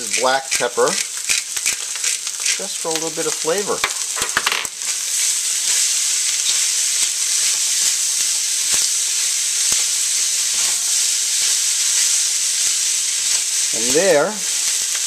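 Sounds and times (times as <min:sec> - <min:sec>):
rice sizzling in a wok: 0:00.0 - 0:15.0.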